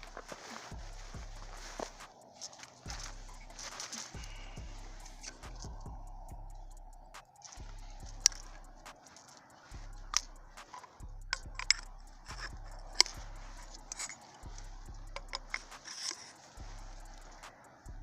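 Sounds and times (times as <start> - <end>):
low hum: 0.0 - 2.2, 2.8 - 18.0
sharp metallic clicks: 1.8 - 18.0.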